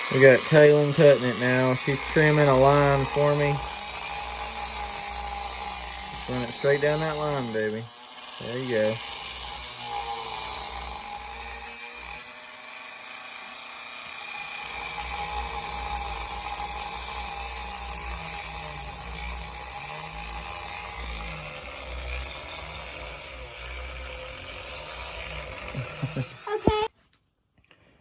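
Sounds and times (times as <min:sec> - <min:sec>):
rotary tool cutting wood: 0:00.0 - 0:26.9.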